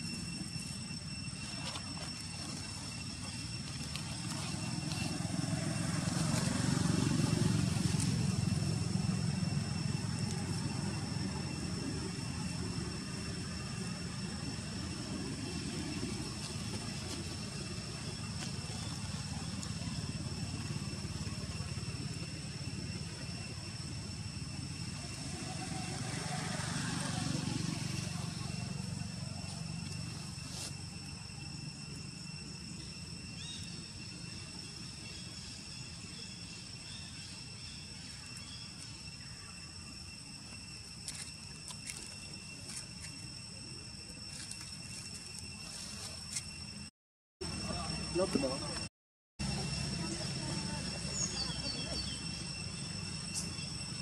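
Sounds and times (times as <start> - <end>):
insects droning: 0.0 - 54.0
low outdoor rumble: 0.0 - 54.0.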